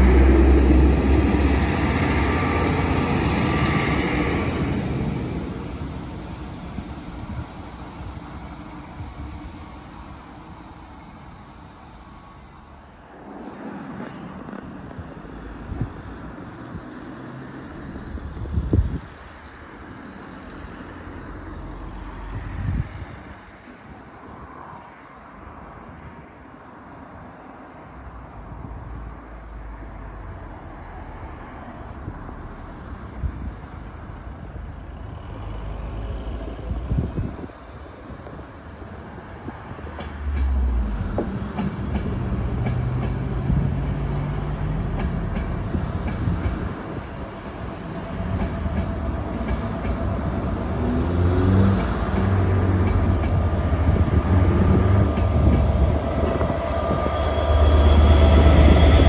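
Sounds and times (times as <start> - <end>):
diesel train approaching: 0.0 - 23.7, 29.3 - 59.0.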